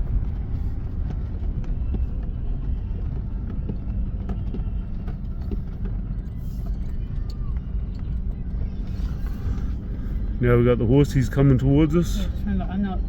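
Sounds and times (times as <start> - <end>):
engine and tyres rumbling: 0.0 - 13.0
knocks and rattles of vehicle: 0.0 - 13.0.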